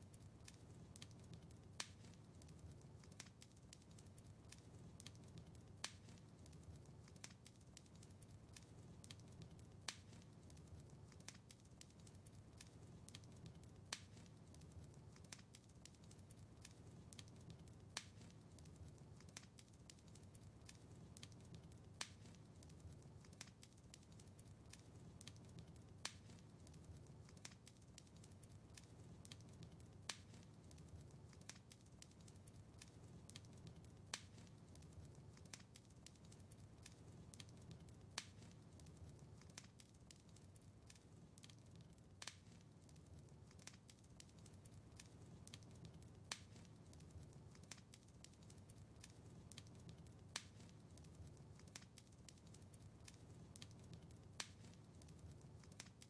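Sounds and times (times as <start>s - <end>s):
low rumble of flames: 0.0s - 56.0s
wood fire crackling: 0.0s - 56.0s.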